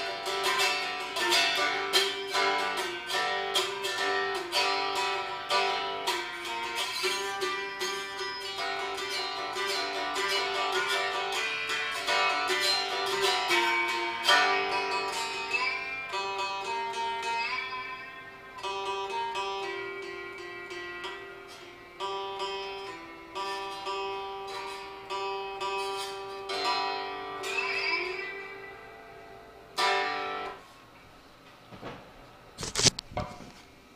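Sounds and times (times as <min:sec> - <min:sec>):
slide resonator guitar: 0:00.0 - 0:30.8.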